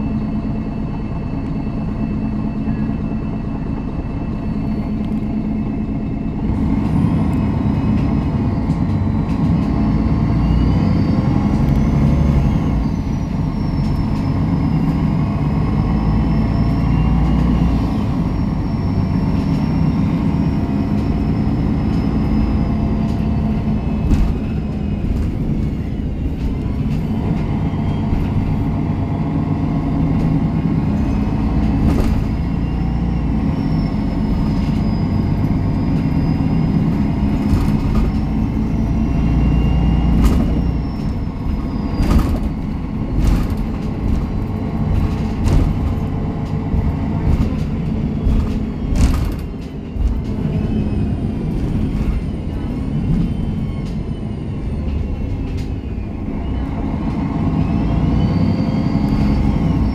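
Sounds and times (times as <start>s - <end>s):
bus diesel engine: 0.0s - 59.9s.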